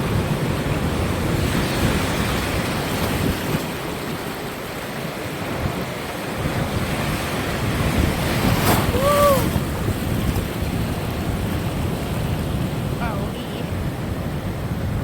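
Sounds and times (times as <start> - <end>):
ocean waves washing in: 0.0 - 15.0
wind buffeting microphone: 0.0 - 15.0.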